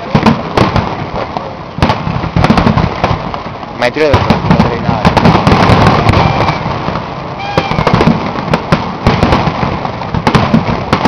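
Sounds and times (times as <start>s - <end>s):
fireworks bangs and crackling pops: 0.0s - 11.0s.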